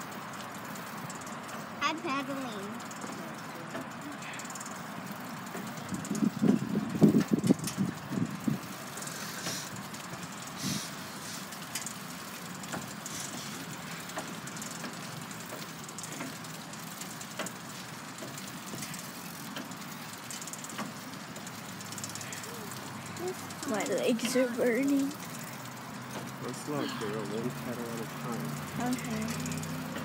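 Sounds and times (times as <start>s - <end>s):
pedal cart rolling and rattling: 0.0s - 30.0s.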